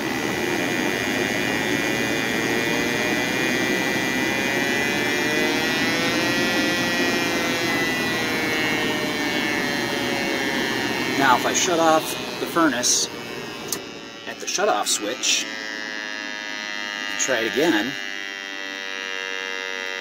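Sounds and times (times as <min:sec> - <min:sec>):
gas detector alarm tone: 0:03.1 - 0:19.7.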